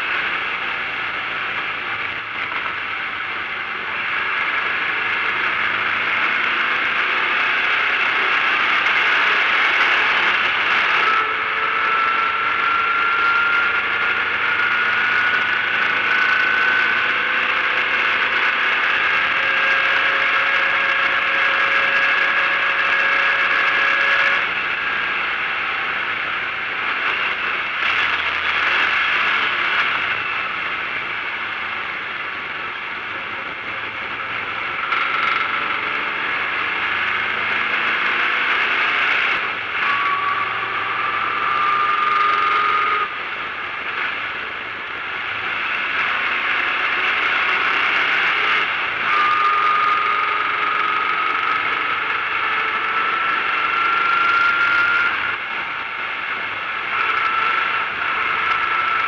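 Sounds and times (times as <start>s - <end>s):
rattling and road noise: 0.0s - 59.0s.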